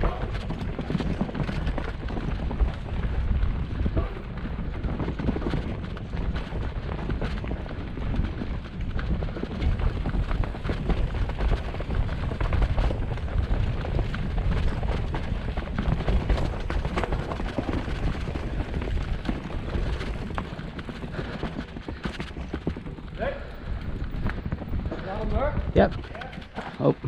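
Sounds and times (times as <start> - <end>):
bike clicking and rattling: 0.0 - 27.0
wind buffeting: 0.0 - 27.0.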